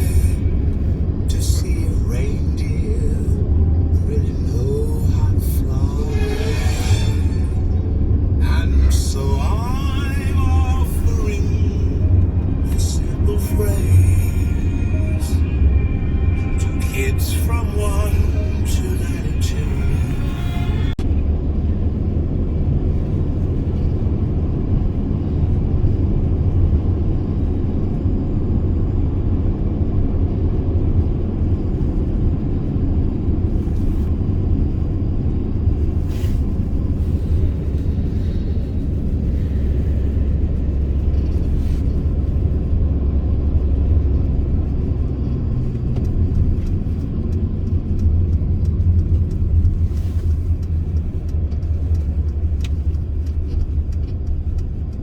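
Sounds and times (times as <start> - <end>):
van engine and road rumble: 0.0 - 55.0.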